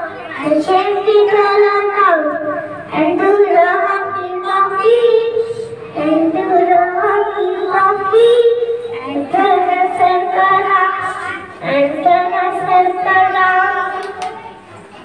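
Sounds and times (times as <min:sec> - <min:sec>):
child singing into a microphone: 0:00.0 - 0:14.6.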